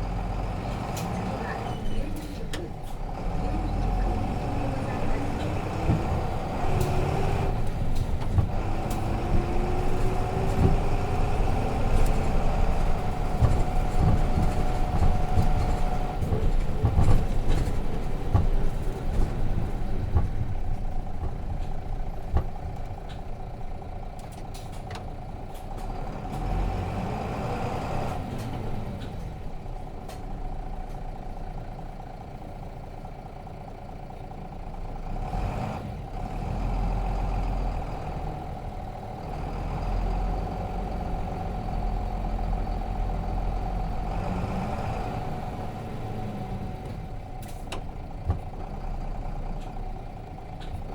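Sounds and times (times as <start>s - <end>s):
bus diesel engine: 0.0s - 50.9s.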